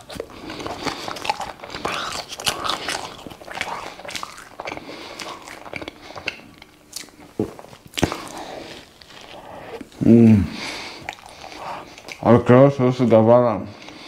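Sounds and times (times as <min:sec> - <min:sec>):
man chewing with wet smacks: 0:00.0 - 0:10.0, 0:10.6 - 0:12.3.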